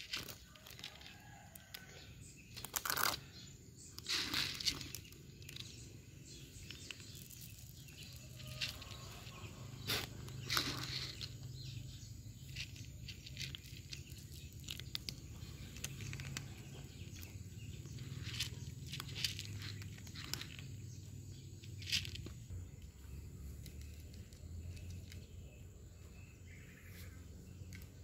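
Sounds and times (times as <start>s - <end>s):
cats crunching dry kibble: 0.0s - 25.8s
rustles: 0.0s - 28.0s.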